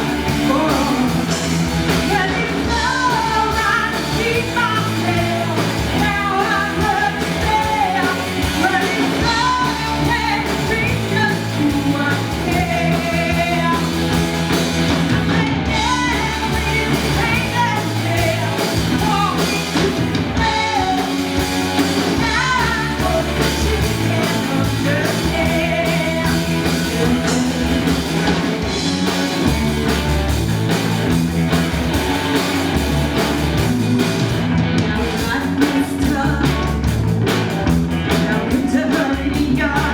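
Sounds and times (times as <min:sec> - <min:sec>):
lead singer: 0:00.0 - 0:31.2, 0:33.4 - 0:39.9
rock band playing live: 0:00.0 - 0:39.9.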